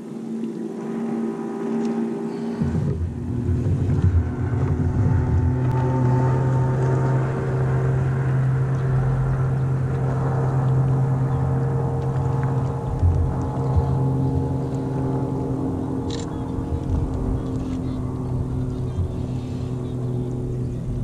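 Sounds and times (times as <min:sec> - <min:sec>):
motorboat engine humming: 0:00.0 - 0:21.0.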